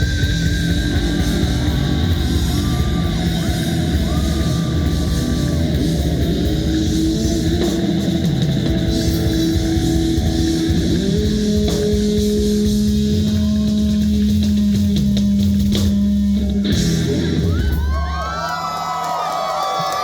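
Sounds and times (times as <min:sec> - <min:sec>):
electric guitar bending long notes: 0:00.0 - 0:18.2
bass guitar: 0:00.0 - 0:19.0
drums: 0:00.0 - 0:20.0.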